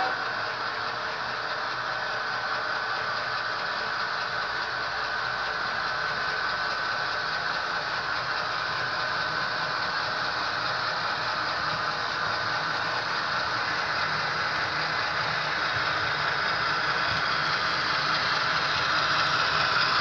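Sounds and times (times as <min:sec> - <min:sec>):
diesel engine sound from speaker: 0:00.0 - 0:20.0.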